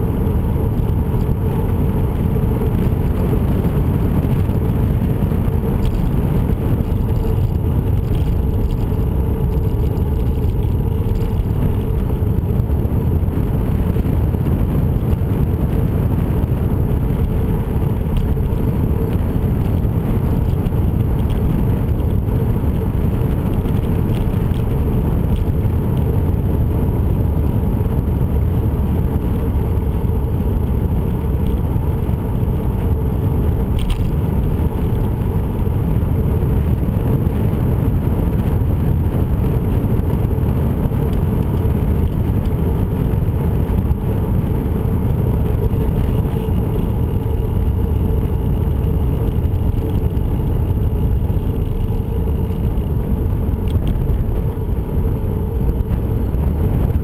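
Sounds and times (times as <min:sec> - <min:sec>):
hiss of travel over asphalt: 0:00.0 - 0:57.0
wind rumble on microphone: 0:00.0 - 0:57.0.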